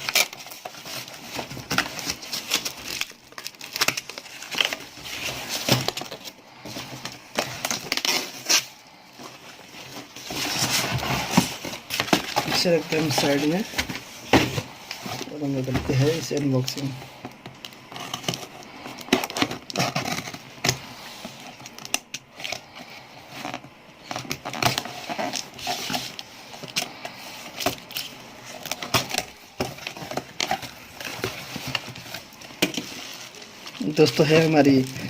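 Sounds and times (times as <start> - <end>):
plastic and cardboard crinkling: 0.0 - 35.0.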